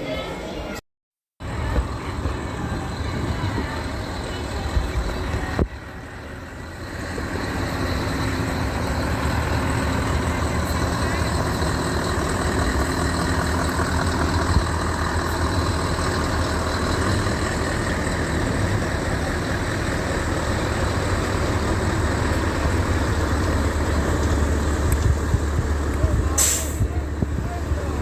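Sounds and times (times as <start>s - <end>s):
diesel truck engine idling: 1.4s - 28.0s.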